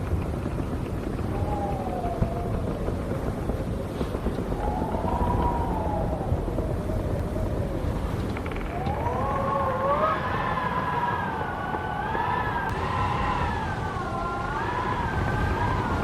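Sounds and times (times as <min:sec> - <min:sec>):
wind howling: 0:00.0 - 0:16.0.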